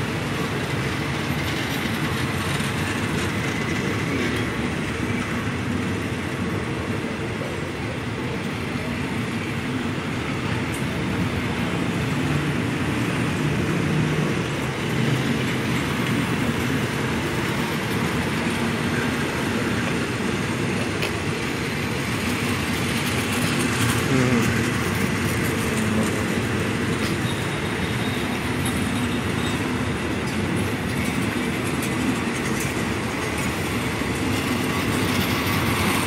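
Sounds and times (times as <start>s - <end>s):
train wheels on rails: 0.0s - 36.0s.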